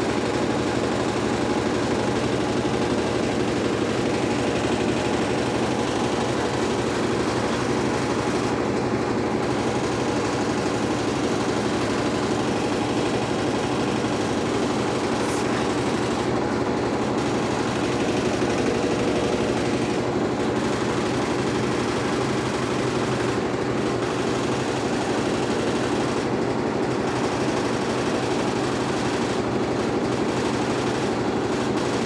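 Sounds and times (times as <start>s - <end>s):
washing machine churning: 0.0s - 32.0s.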